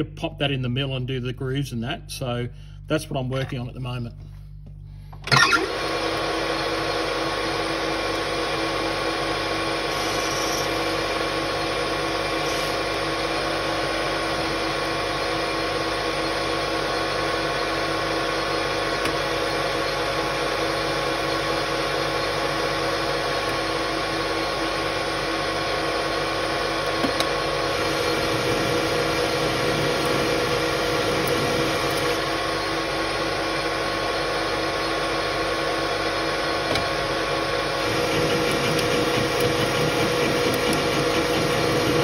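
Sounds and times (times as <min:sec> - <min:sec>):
lathe running: 0:05.4 - 0:42.0.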